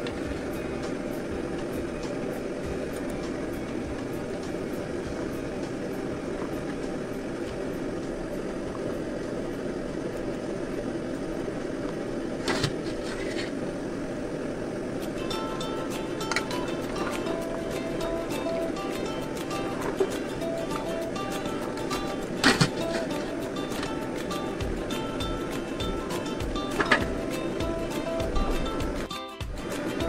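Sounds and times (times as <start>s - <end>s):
stove burner roaring: 0.0s - 30.0s.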